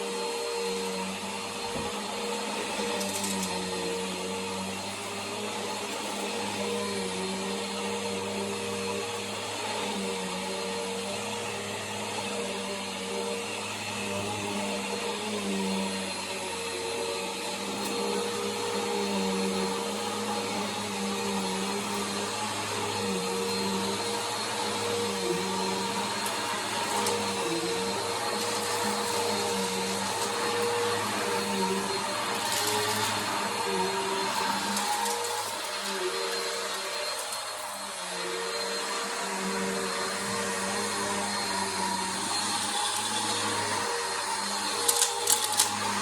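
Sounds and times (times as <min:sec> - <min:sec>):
upright vacuum cleaner running: 0:00.0 - 0:46.0.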